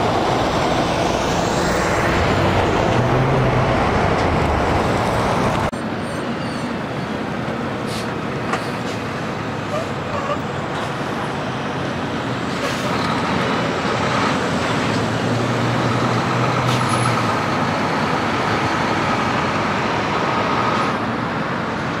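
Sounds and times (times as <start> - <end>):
diesel truck engine drone: 0.0 - 22.0
tyre and traffic noise: 0.0 - 22.0.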